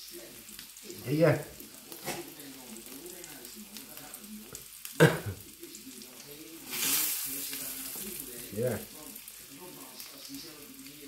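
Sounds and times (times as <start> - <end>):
croquettes sizzling in pan: 0.0 - 11.0.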